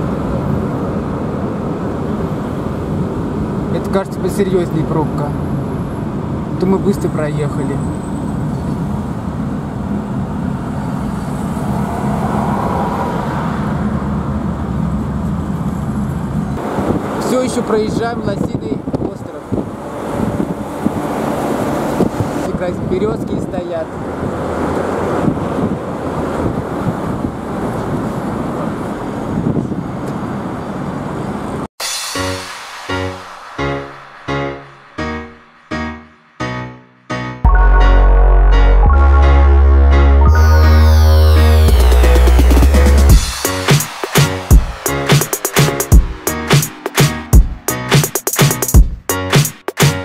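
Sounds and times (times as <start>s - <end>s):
car engine and road noise: 0.0s - 31.7s, 37.5s - 50.0s.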